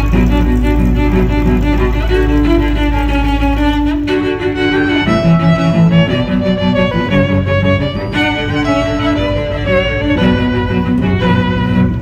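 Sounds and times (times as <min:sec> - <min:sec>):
cello: 0:00.0 - 0:12.0
low sustained bass note: 0:00.0 - 0:12.0
violin: 0:00.0 - 0:12.0.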